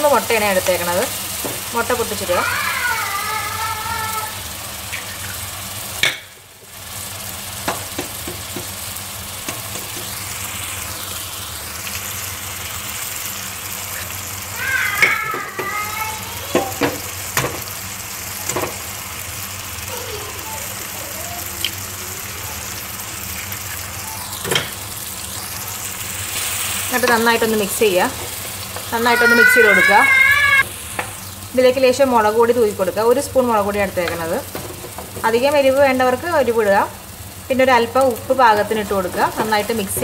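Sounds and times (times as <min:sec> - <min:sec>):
eggs sizzling in oil: 0:00.0 - 0:40.0.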